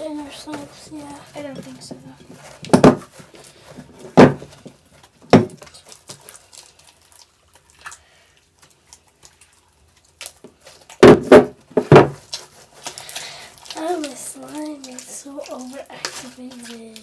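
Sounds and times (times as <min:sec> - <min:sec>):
slime squelching and popping: 0:02.4 - 0:17.0.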